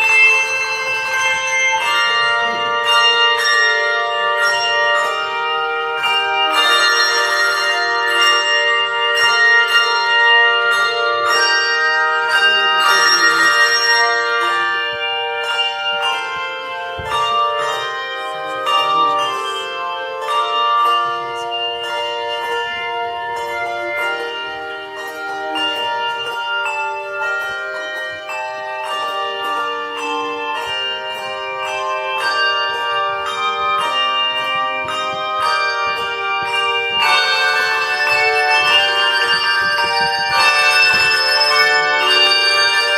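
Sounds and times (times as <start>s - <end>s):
handbell choir playing: 0.0s - 42.9s.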